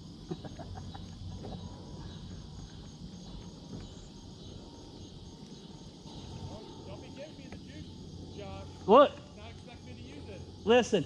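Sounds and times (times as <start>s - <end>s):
constant high hiss: 0.0s - 11.0s
insects chirping: 0.0s - 11.0s.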